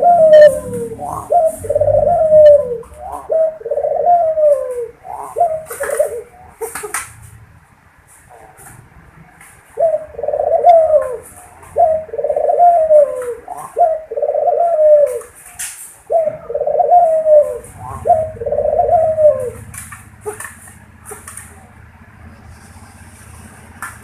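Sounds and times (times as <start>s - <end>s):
dove cooing: 0.0s - 7.2s, 9.7s - 21.8s.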